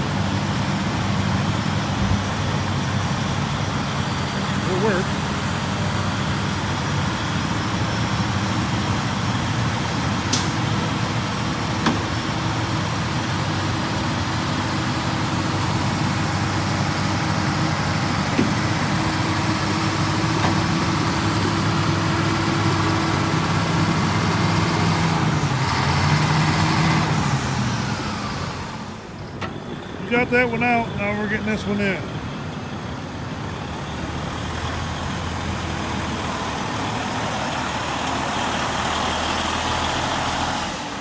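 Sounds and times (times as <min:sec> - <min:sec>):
heavy diesel engines under load: 0:00.0 - 0:41.0.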